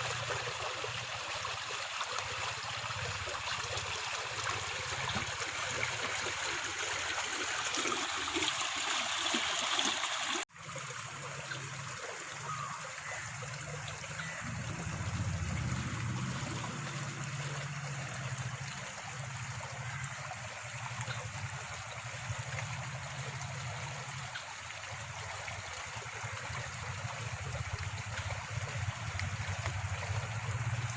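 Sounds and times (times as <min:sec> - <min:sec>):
stream water trickling and gurgling: 0:00.0 - 0:30.9.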